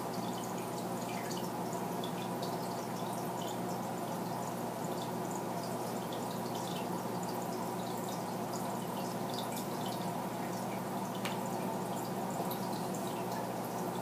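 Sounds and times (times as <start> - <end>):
low electrical hum: 0.0 - 14.0
water drips: 0.0 - 14.0.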